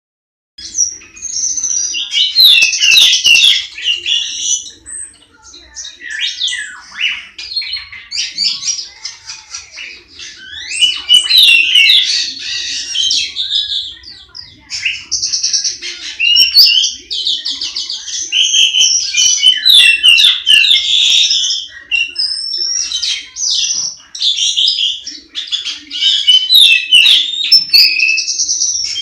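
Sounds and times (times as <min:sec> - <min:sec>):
songbird chirps and trills: 0:00.6 - 0:29.0.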